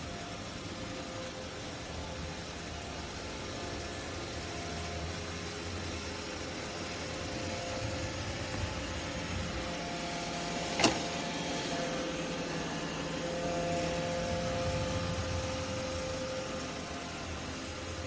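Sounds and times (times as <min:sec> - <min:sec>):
robot vacuum motor hum: 0:00.0 - 0:18.0.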